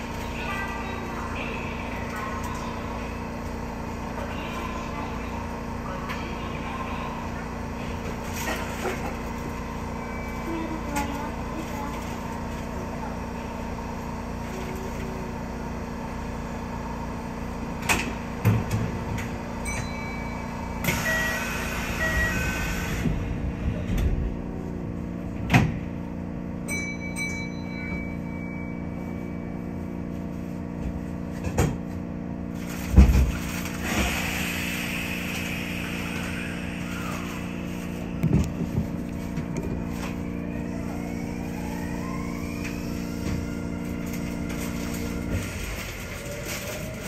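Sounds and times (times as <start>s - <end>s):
train equipment hum: 0.0s - 47.0s.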